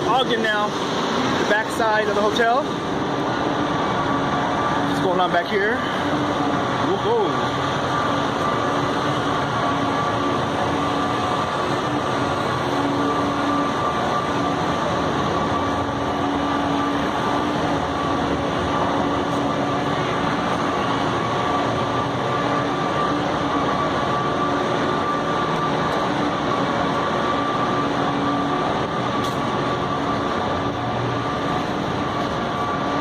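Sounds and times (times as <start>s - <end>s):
heavy machinery rumbling: 0.0s - 33.0s
high steady mechanical whine: 0.0s - 33.0s.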